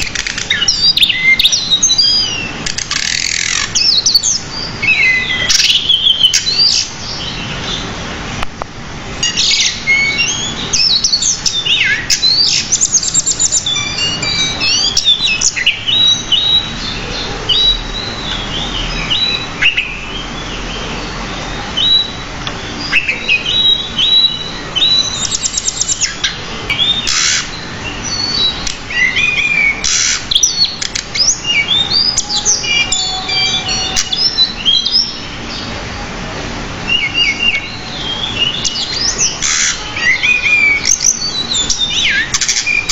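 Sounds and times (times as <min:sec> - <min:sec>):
bird singing: 0:00.0 - 0:08.4, 0:09.2 - 0:42.9.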